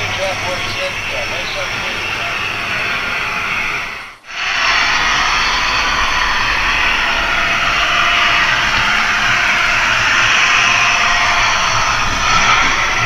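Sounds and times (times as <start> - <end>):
model locomotive running on track: 0.0 - 13.0.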